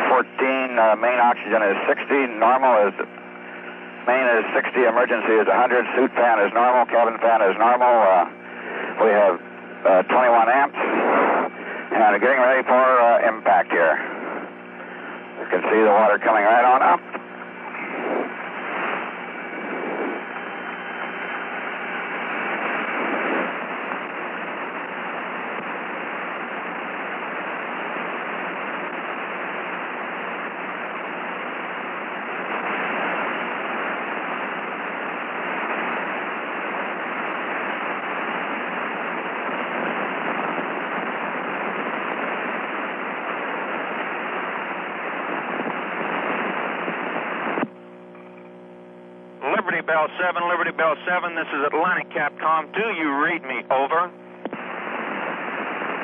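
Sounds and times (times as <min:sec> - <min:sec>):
radio static crackling: 0:00.0 - 0:56.0
radio static hiss: 0:00.0 - 0:56.0.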